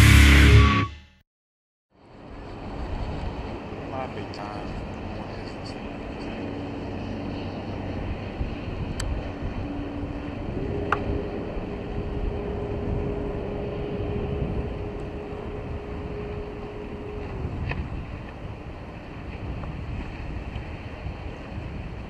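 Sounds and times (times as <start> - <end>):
water: 1.9 - 22.0
wind: 1.9 - 22.0
steady low hum: 2.3 - 21.6.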